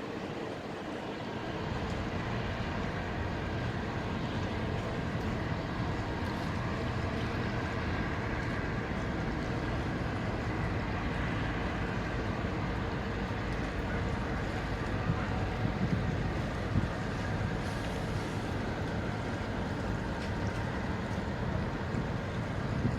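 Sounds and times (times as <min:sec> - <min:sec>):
ship diesel engines rumbling: 0:00.0 - 0:22.9
wind and water hiss: 0:00.0 - 0:22.9.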